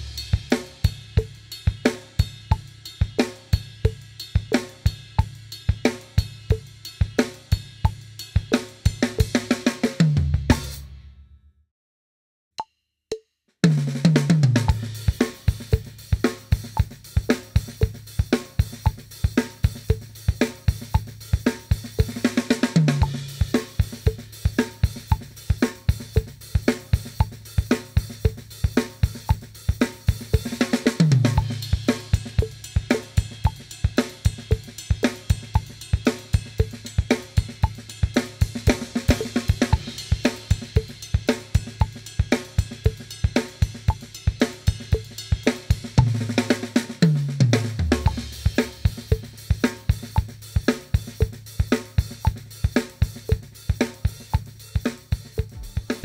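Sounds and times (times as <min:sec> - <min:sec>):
drum kit groove: 0:00.0 - 0:11.0, 0:13.6 - 0:56.0.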